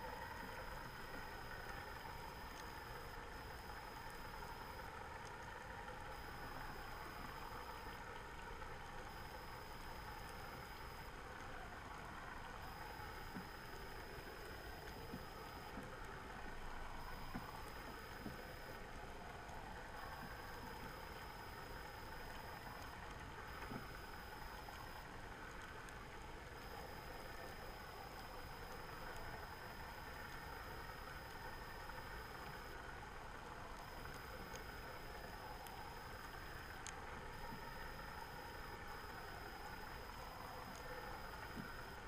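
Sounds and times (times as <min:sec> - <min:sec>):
soft ticks: 0:00.0 - 0:08.2, 0:08.8 - 0:33.0, 0:33.7 - 0:42.0
faint high whine: 0:00.0 - 0:42.0
underwater hiss and rumble: 0:00.0 - 0:42.0.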